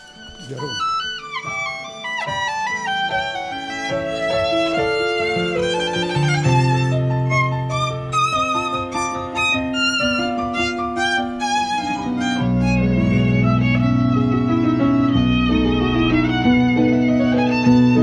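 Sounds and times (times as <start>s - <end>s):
electronic keyboard accompaniment: 0.0s - 18.0s
violin melody with vibrato: 0.0s - 18.0s.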